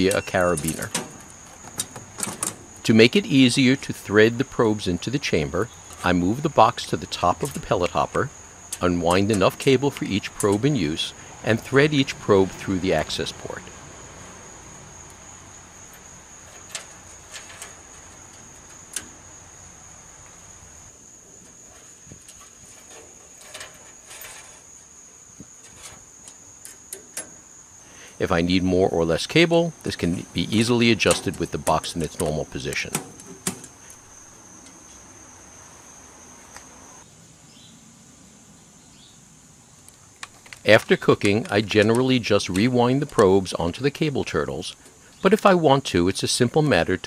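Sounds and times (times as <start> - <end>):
high-pitched insect trill: 0.0 - 47.0.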